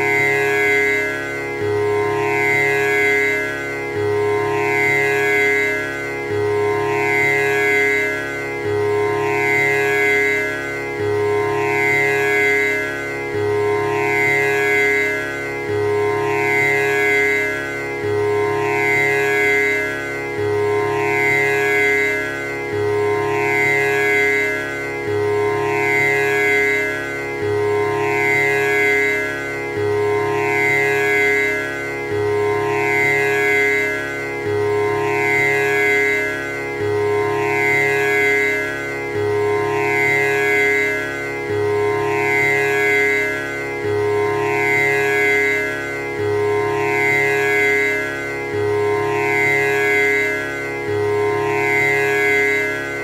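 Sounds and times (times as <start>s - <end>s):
tanpura drone: 0.0s - 53.0s.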